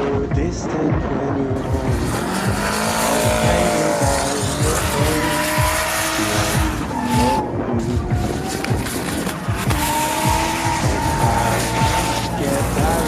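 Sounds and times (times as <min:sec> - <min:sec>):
background music with beat: 0:00.0 - 0:13.0
car engine revving: 0:00.0 - 0:13.0
tyres squealing: 0:01.6 - 0:13.0.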